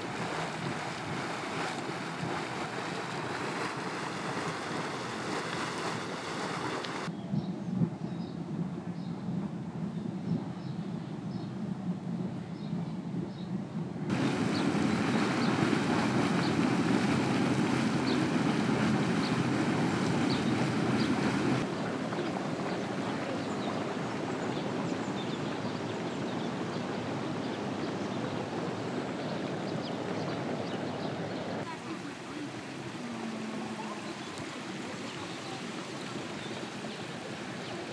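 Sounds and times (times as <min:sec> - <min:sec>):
boiling hot spring water rushing: 0:00.0 - 0:07.1, 0:14.1 - 0:37.9.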